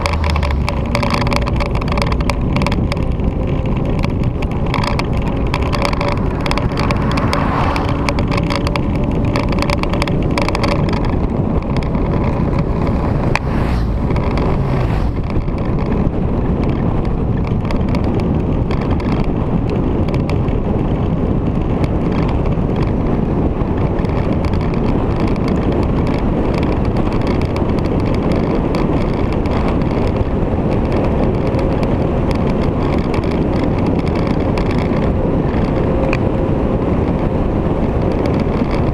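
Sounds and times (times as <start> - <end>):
motorcycle engine: 0.0 - 38.9
wind rushing over microphone: 0.0 - 38.9.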